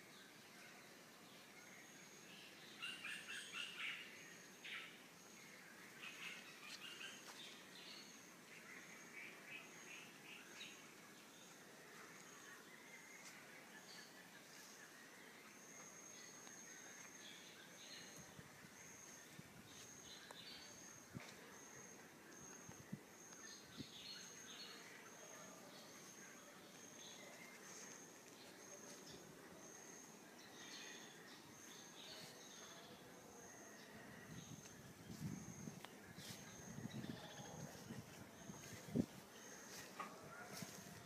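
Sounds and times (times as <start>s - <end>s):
faint birds chirping: 0.0s - 41.0s.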